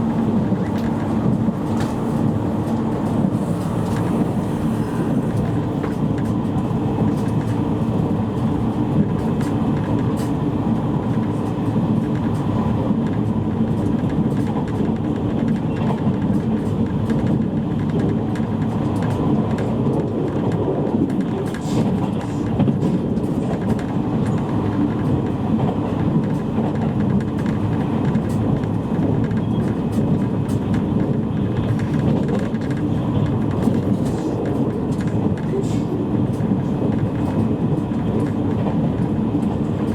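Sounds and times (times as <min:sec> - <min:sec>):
train wheels and motors rumbling: 0:00.0 - 0:39.9.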